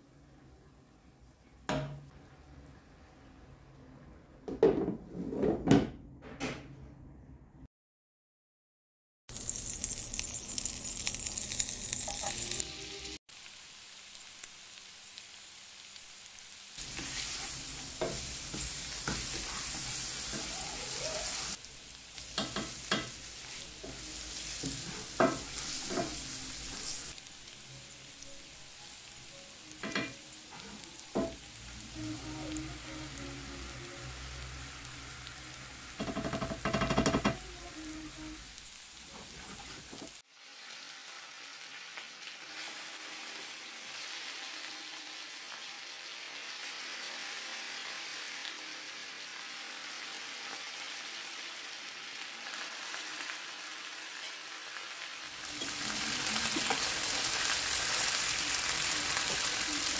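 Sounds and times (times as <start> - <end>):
butter sizzling in a pan: 9.3 - 59.9.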